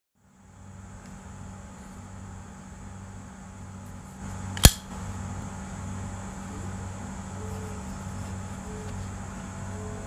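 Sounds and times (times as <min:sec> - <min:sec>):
faint high whine: 0:00.2 - 0:10.0
low mechanical hum: 0:00.2 - 0:10.0.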